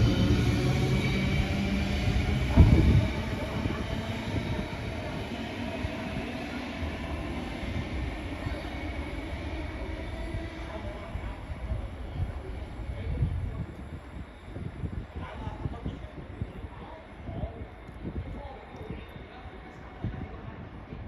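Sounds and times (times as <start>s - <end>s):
electric train running on track: 0.0s - 21.0s.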